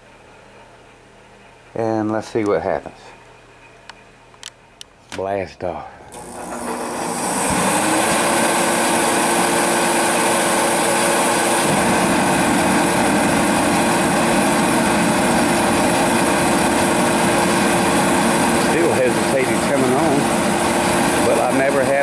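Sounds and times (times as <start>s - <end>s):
heater motor and fan whirring: 0.0s - 22.0s.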